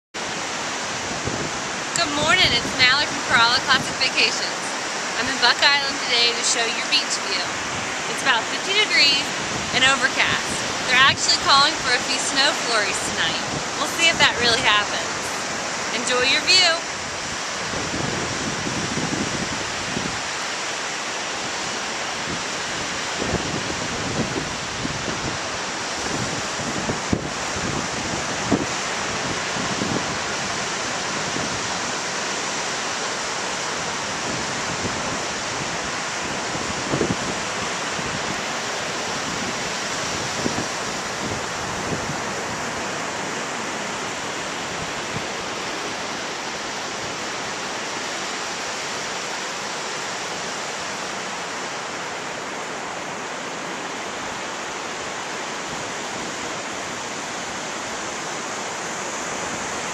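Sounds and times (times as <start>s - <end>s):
surf breaking on beach: 0.2s - 59.9s.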